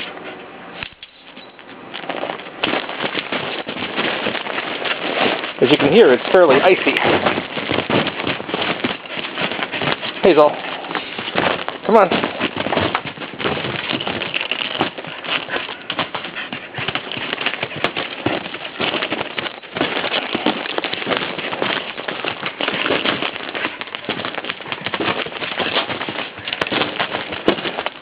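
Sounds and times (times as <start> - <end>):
footsteps crunching through icy snow: 1.9 - 28.0.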